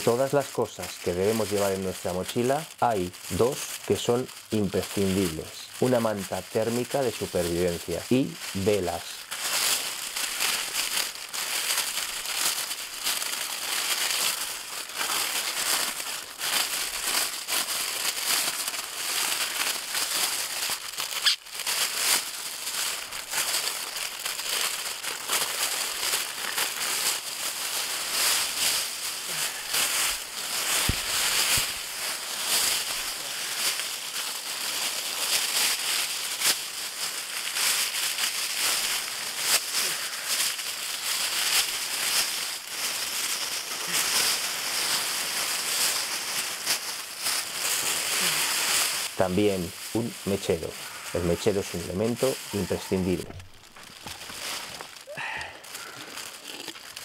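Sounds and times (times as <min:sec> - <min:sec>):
foil blanket crinkling: 0:00.0 - 0:57.0.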